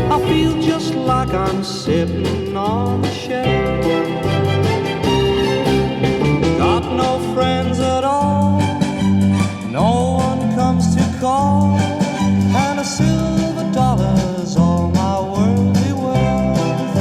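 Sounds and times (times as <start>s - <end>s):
guitar: 0.0s - 17.0s
sliding lead melody: 0.0s - 17.0s
steady bass line: 0.0s - 17.0s.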